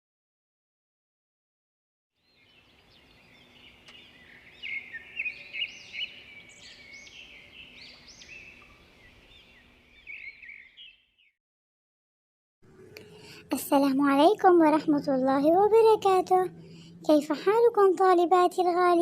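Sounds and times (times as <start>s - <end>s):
birds chirping: 2.2s - 11.4s, 12.7s - 19.0s.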